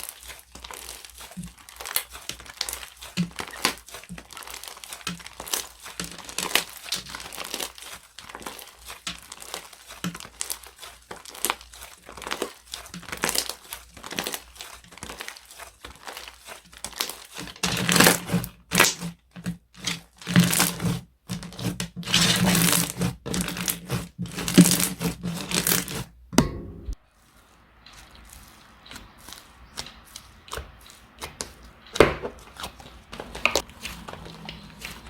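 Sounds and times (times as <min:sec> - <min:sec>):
slime crackling and crunching: 0:00.0 - 0:26.2, 0:27.0 - 0:35.0.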